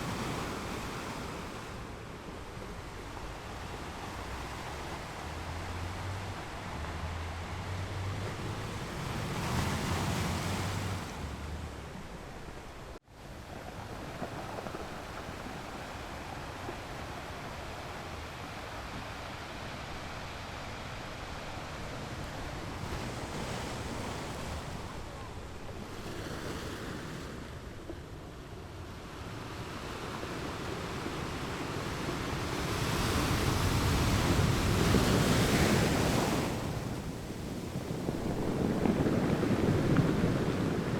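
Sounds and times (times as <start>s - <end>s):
waves breaking: 0.0s - 13.0s, 13.7s - 40.9s.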